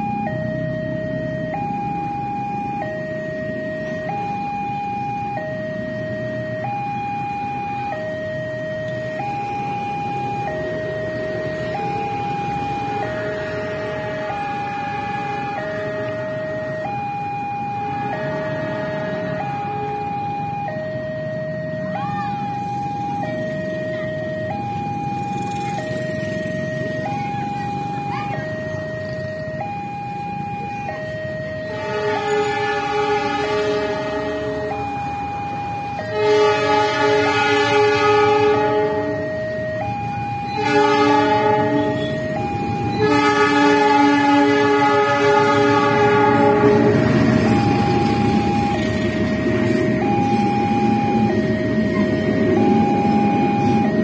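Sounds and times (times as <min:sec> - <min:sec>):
level crossing two-tone alarm: 0:00.0 - 0:54.0.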